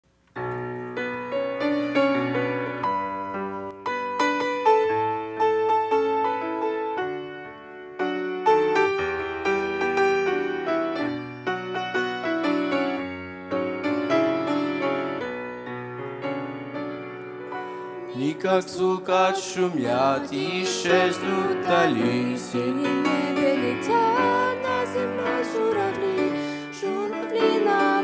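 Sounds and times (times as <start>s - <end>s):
grand piano playing: 0.3s - 28.0s.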